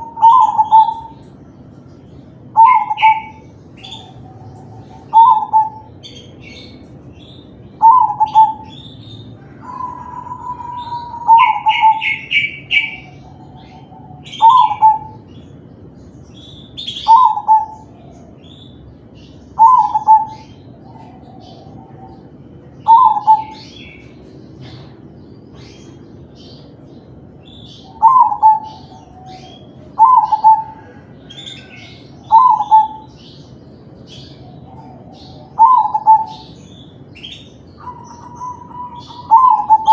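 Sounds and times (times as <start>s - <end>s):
dove cooing: 0.0s - 1.3s, 2.5s - 15.5s, 16.8s - 18.7s, 19.5s - 25.0s, 27.5s - 33.5s, 34.1s - 39.9s.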